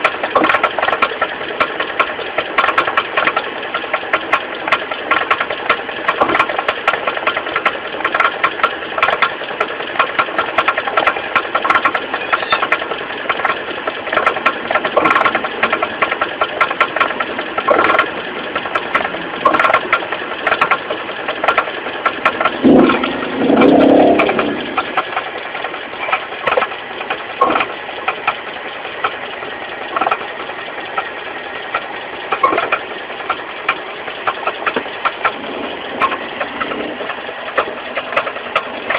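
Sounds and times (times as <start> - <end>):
car engine idling: 0.0 - 38.9
engine pulley knocking and clattering: 0.0 - 38.9.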